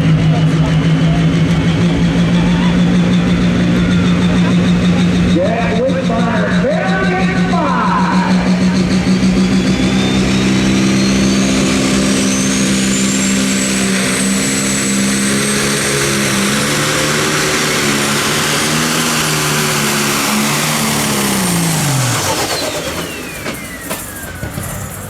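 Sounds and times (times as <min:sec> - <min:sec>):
diesel engine running under load: 0:00.0 - 0:25.0
turbocharger whistle: 0:00.0 - 0:25.0.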